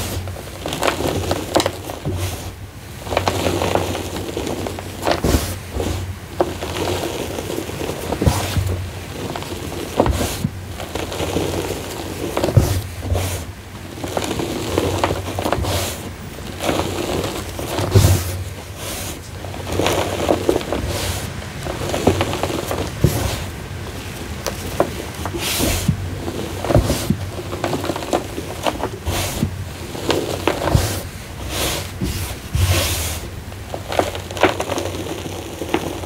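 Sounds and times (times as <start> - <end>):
chalk and sand crunching: 0.0 - 36.0
powder sifting: 0.0 - 36.0.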